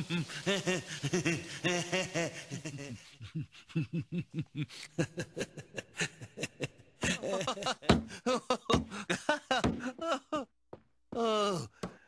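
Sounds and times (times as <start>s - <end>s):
elderly man laughing: 0.0s - 10.5s.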